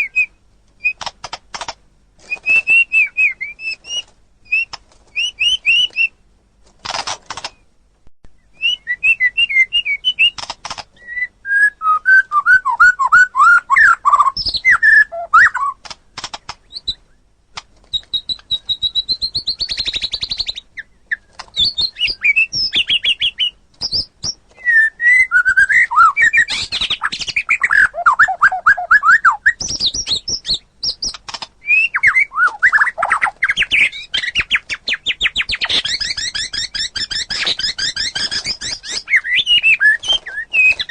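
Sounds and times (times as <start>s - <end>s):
bird singing whistles and trills: 0.0s - 1.1s, 2.2s - 6.2s, 8.4s - 15.8s, 17.9s - 40.9s.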